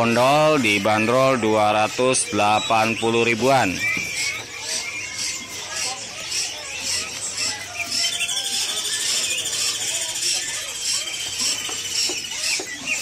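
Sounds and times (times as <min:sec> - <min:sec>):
fast high bird trill: 0:00.0 - 0:13.0
songbirds chirping: 0:00.0 - 0:13.0.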